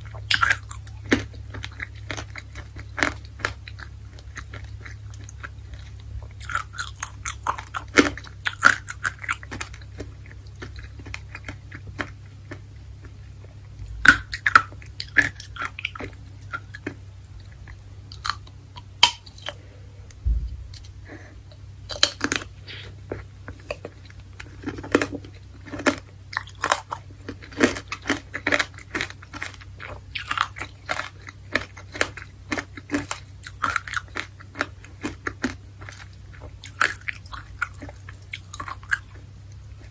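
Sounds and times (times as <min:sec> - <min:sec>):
wet chewing: 0:00.0 - 0:20.2, 0:20.8 - 0:39.9
candied fruit crunching: 0:00.0 - 0:39.9.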